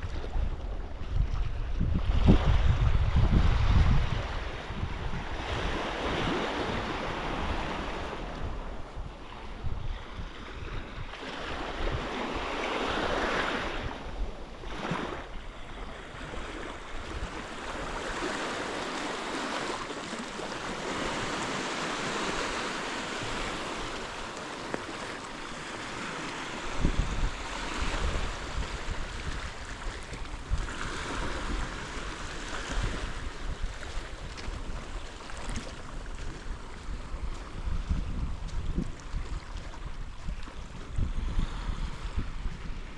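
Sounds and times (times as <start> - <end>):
sea waves breaking on shore: 0.0 - 42.9
wind buffeting microphone: 0.0 - 42.9.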